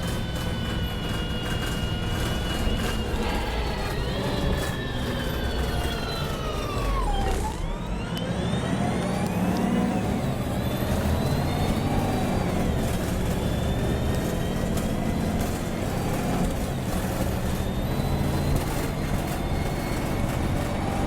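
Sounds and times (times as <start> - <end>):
bus engine rumble: 0.0 - 21.0
drivetrain whine: 0.0 - 21.0.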